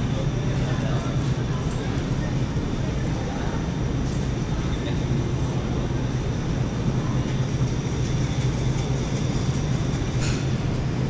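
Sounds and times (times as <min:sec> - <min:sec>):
supermarket background hum: 0:00.0 - 0:11.0.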